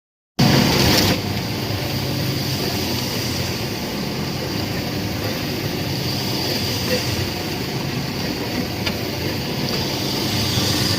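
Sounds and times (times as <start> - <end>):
concrete mixer running: 0.4 - 10.9.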